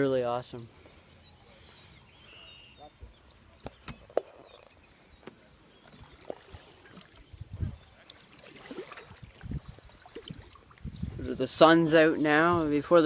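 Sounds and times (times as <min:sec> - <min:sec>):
water trickling and lapping: 0:00.7 - 0:11.8.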